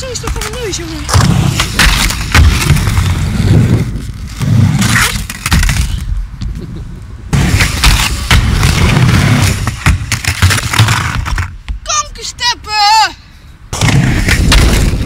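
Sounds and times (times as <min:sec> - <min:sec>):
skateboard wheels rumbling on concrete: 0:00.0 - 0:13.1, 0:13.7 - 0:15.0.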